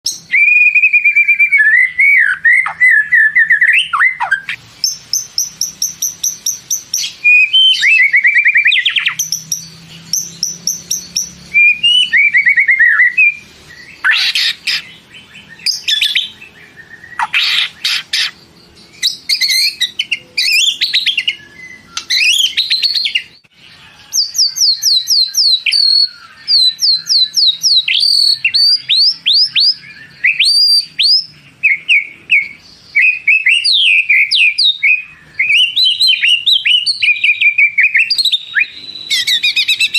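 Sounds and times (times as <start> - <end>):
songbird whistling song: 0.0 - 39.9.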